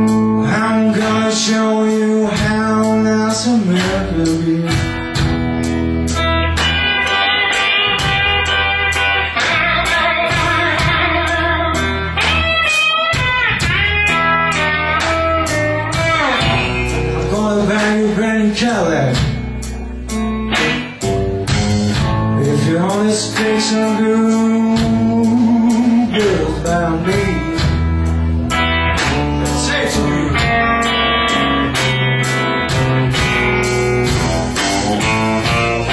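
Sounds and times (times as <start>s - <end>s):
electric blues band playing: 0.0s - 35.9s
electric guitar lead: 0.0s - 35.9s.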